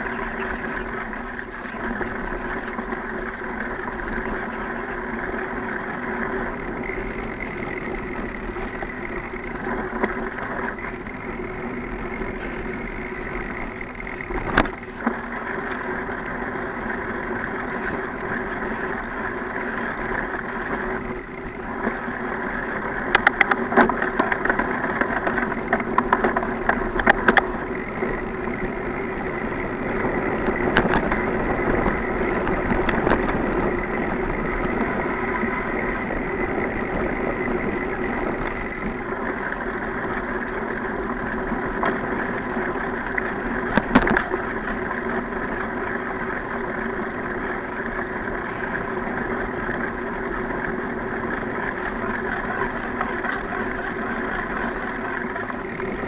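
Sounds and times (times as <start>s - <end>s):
bicycle rolling on trail: 0.0s - 56.0s.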